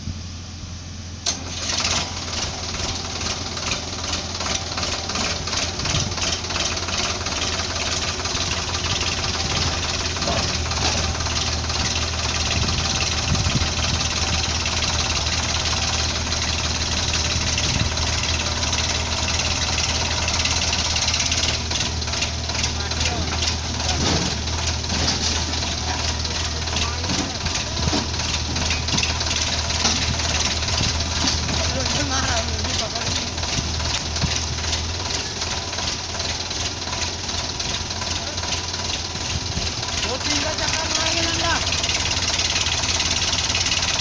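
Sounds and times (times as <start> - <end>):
heavy diesel engine revving: 1.2 - 44.0.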